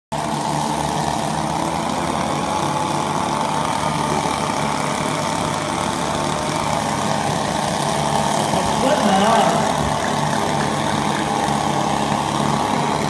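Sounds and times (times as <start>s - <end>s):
chainsaw engine idling: 0.1s - 13.0s.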